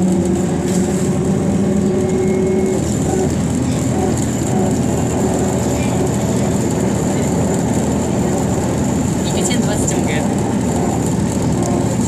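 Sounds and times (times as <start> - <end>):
trolleybus running noise: 0.0 - 12.0.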